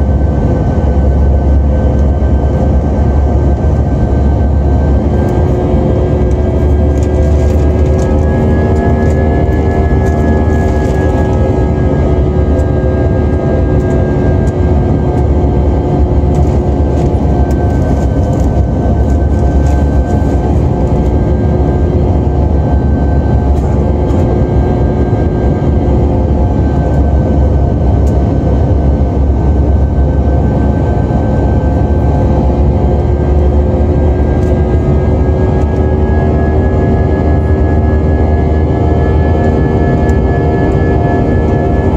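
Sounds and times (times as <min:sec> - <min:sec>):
jet cabin engine rumble: 0:00.0 - 0:41.9.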